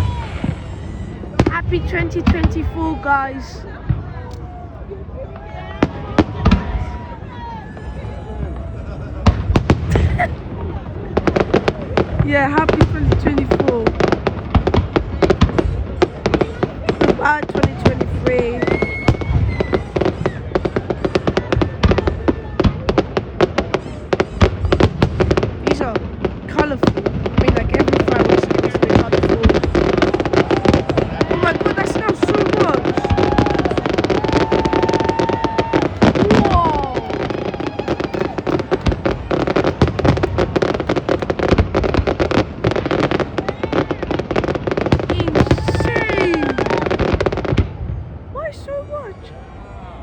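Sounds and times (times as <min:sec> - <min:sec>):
heavy firework booms: 0:00.0 - 0:04.2, 0:05.3 - 0:48.3
fireworks bangs and crackles: 0:00.0 - 0:49.6.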